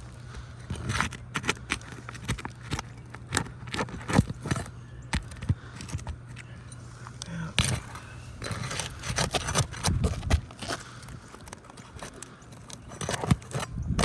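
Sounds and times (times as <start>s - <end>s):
tool clicking and scraping under shingles: 0.0s - 14.0s.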